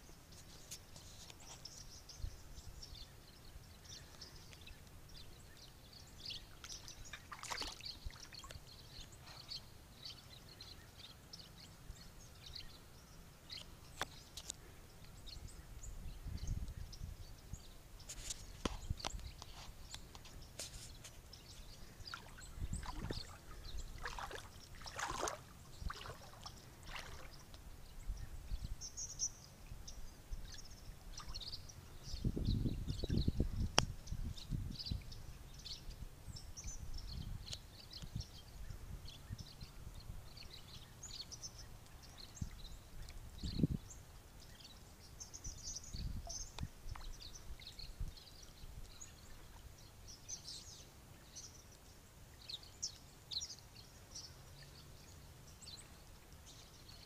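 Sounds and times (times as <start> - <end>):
flock of birds chirping: 0.0 - 57.0.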